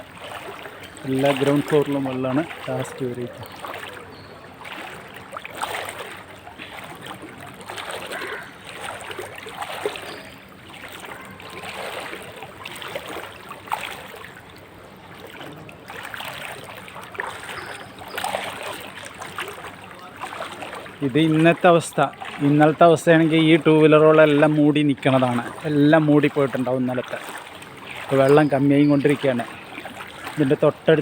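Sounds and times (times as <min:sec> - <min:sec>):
wading through water: 0:00.0 - 0:31.0.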